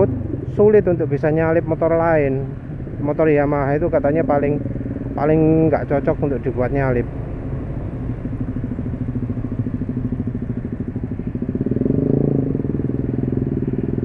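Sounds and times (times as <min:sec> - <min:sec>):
motorcycle engines idling in traffic: 0:00.0 - 0:14.0.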